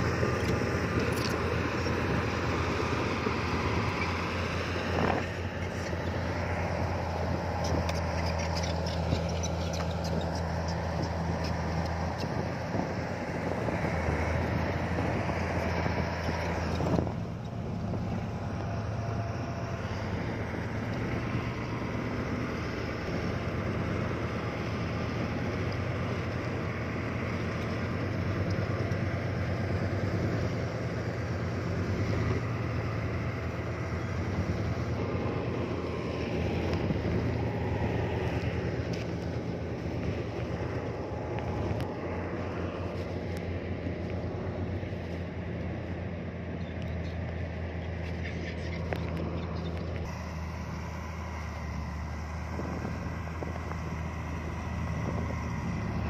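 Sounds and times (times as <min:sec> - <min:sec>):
heavy diesel machinery engine drone: 0:00.0 - 0:56.0.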